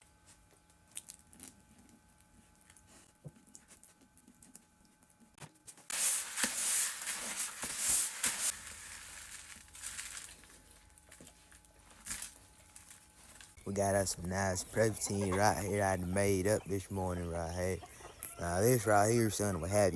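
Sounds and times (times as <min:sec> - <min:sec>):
crinkling handling noise: 0:00.2 - 0:17.0.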